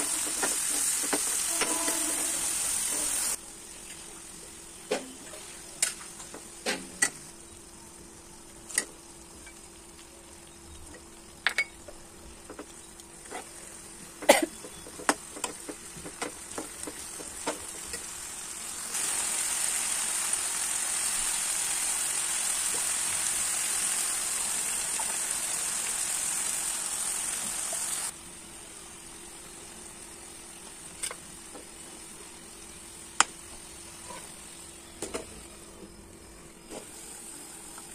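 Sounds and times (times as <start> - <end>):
curry sizzling in a pan: 0.0 - 11.4, 12.3 - 35.6.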